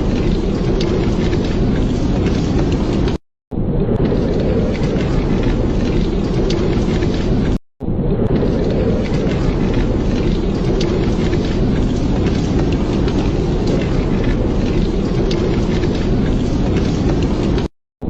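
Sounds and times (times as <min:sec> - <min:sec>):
fire crackling: 0:00.0 - 0:07.6, 0:08.2 - 0:17.7
low rumble of fire: 0:00.0 - 0:17.7.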